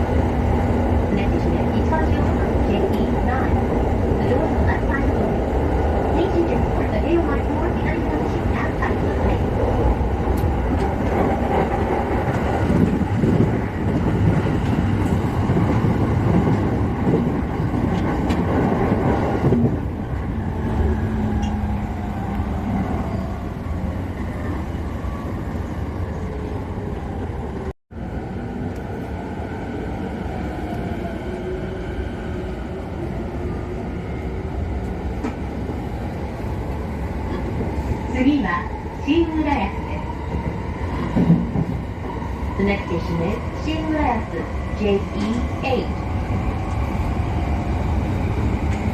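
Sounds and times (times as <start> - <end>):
train rumbling at speed: 0.0 - 48.9.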